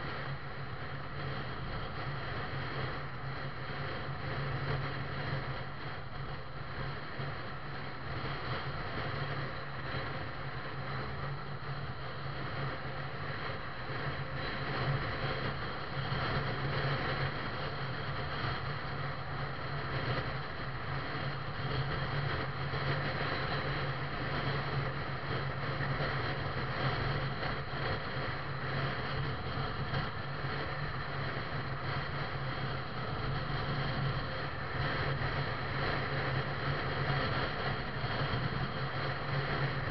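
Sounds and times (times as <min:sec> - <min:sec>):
engine drone: 0:00.0 - 0:39.9
road and wind noise: 0:00.0 - 0:39.9.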